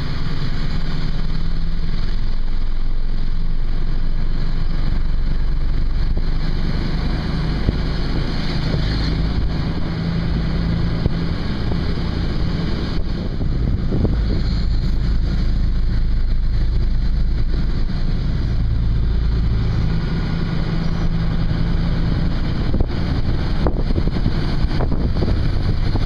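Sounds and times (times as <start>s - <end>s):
steady low hum: 0.0s - 26.0s
wind rumbling on microphone: 0.0s - 26.0s.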